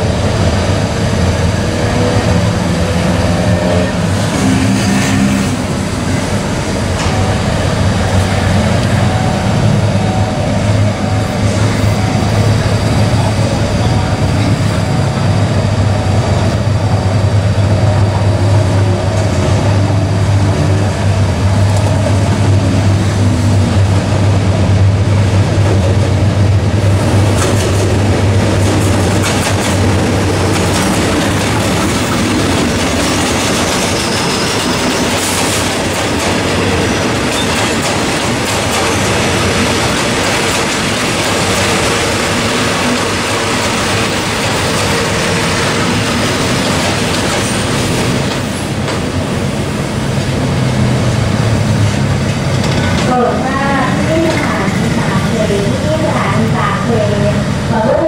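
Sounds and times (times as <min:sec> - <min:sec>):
diesel locomotive engine drone: 0:00.0 - 0:58.0
wheels clattering and squealing on rails: 0:00.0 - 0:58.0.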